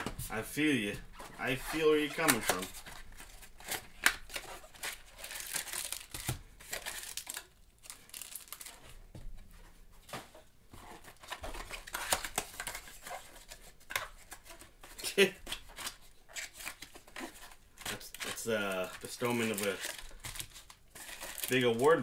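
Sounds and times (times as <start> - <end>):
pack wrappers crinkling: 1.4 - 9.0, 11.0 - 22.0.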